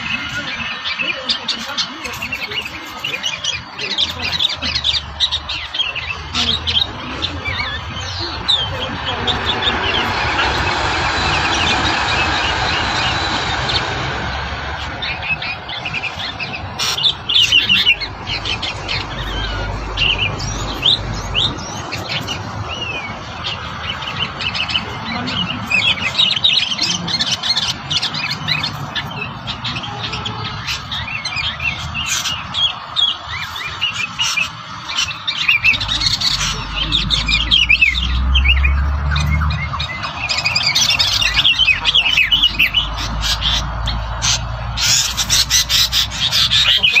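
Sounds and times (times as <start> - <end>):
songbirds chirping and trilling: 0.0 - 47.0.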